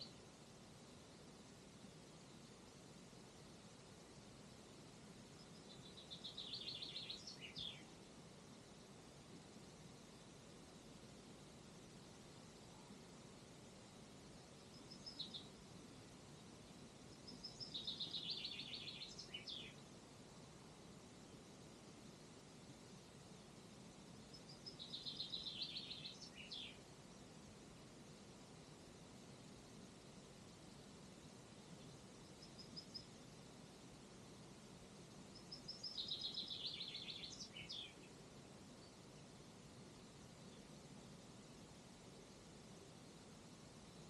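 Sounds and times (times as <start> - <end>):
faint background hiss: 0.0 - 44.0
songbird singing: 0.0 - 44.0.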